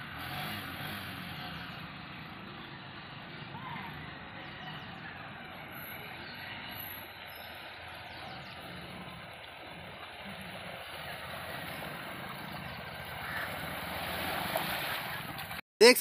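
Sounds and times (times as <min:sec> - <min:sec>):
motorcycle engine running: 0:00.0 - 0:13.7
wheels pushing through water: 0:00.0 - 0:15.6.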